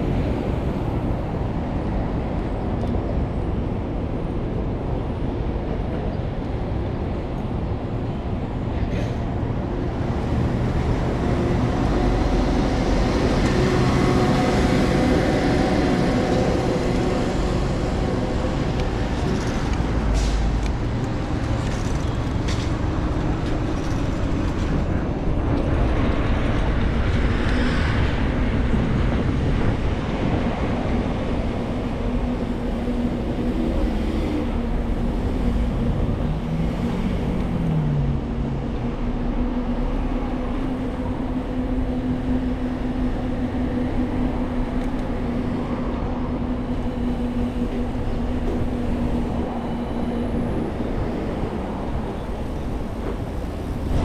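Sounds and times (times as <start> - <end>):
engine hum: 0.0 - 54.0
road noise rush: 0.0 - 54.0.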